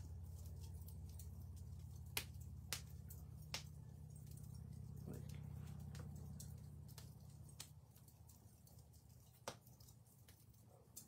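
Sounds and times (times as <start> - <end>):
low steady hum: 0.0 - 11.0
wood fire crackling: 0.0 - 11.0.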